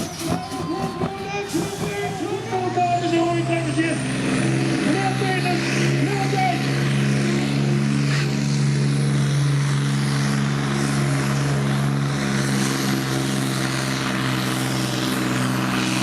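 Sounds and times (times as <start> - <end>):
truck diesel engine droning: 0.0 - 16.0.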